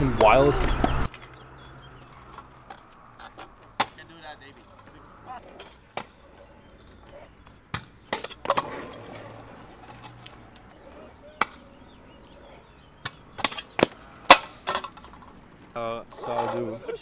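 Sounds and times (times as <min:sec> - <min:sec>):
scooter clacking on concrete: 0:00.0 - 0:17.0
scooter wheels rolling: 0:00.0 - 0:17.0.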